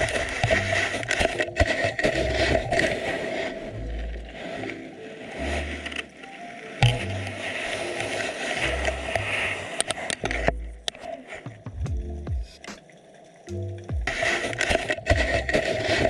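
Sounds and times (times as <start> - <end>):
surges of moving water: 0.0 - 11.6, 14.1 - 16.0
crackling clicks: 0.0 - 16.0.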